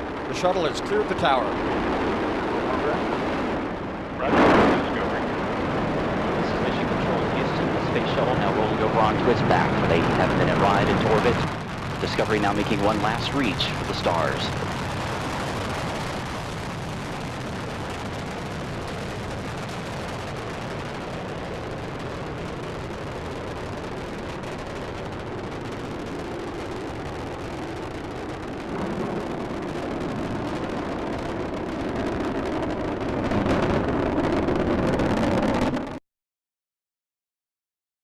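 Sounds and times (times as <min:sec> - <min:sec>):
rocket engines rumbling: 0:00.0 - 0:36.0.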